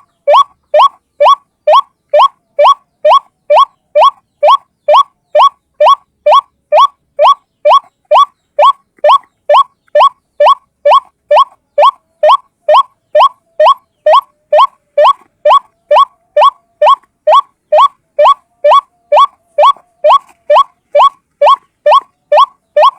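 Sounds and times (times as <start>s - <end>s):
bird calling upward-slurred note: 0.0s - 22.9s.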